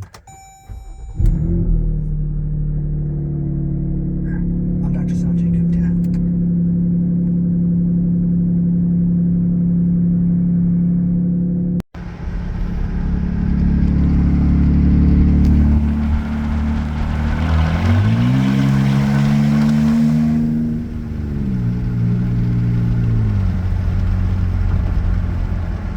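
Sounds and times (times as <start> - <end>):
car engine drone: 0.0 - 25.9.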